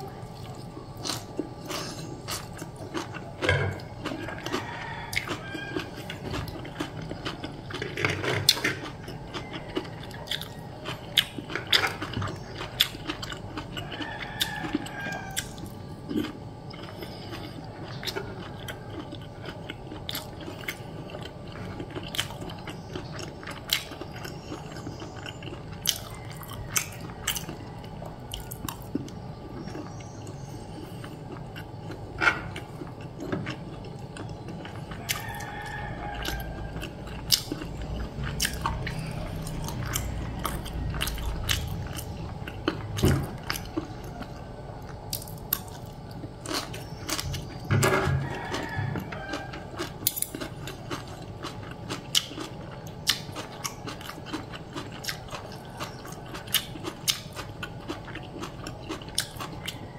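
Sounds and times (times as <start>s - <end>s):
chewing and biting food: 0.1s - 59.9s.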